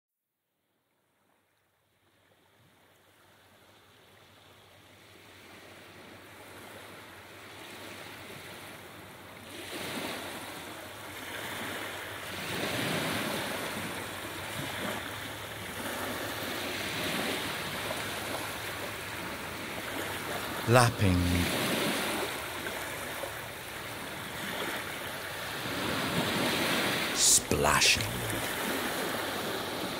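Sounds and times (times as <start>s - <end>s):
sea waves washing onto beach: 5.2s - 29.9s.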